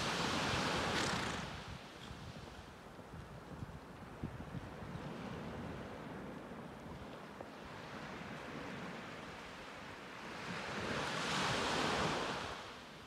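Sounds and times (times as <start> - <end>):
small waves on sandy shore: 0.0 - 2.8, 4.0 - 13.0.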